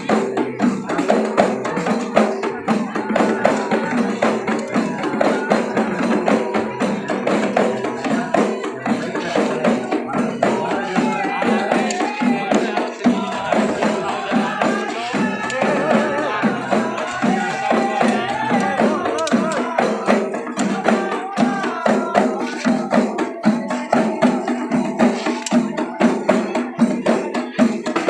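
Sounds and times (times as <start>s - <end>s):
frame drums beaten fast: 0.0s - 28.0s
voices singing: 0.0s - 28.0s.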